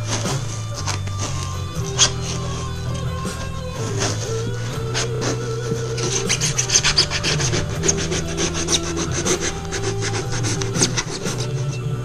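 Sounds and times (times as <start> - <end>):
hand scraping foam: 0.0 - 12.0.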